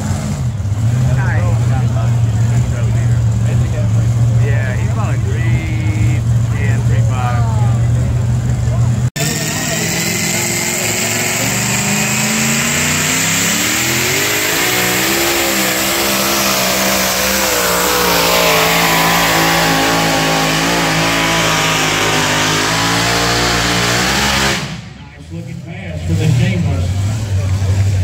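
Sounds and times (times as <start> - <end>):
truck engine running hard: 0.0 - 28.0.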